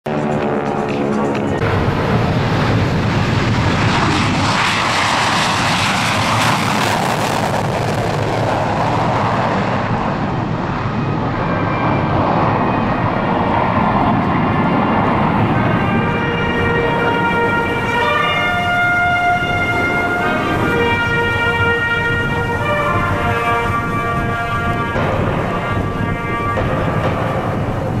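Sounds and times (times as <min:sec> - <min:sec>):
jet aircraft passing low: 0:00.0 - 0:28.0.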